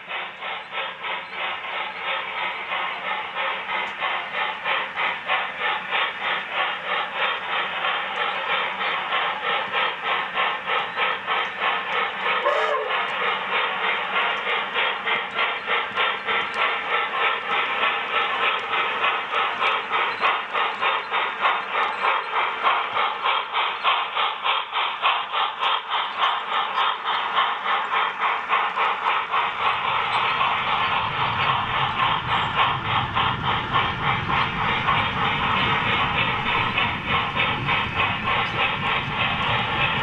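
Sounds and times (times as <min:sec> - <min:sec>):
freight cars rumbling on track: 0:00.0 - 0:40.0
model locomotive chuffing through speaker: 0:00.0 - 0:40.0.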